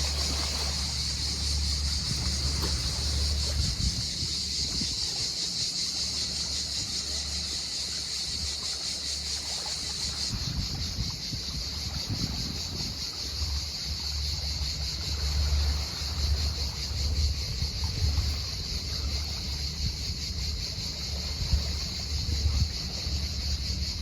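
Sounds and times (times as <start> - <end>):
wind rumbling on microphone: 0.0 - 5.4, 10.0 - 24.0
cicadas buzzing: 0.0 - 24.0.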